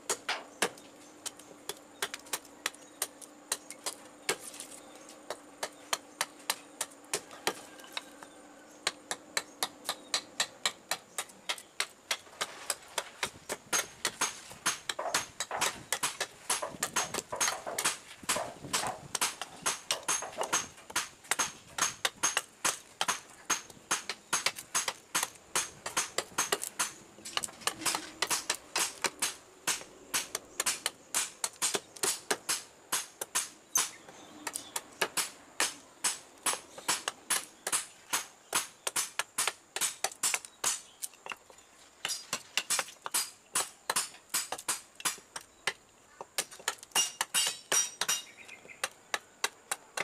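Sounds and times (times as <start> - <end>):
blade chopping wood: 8.9 - 50.0.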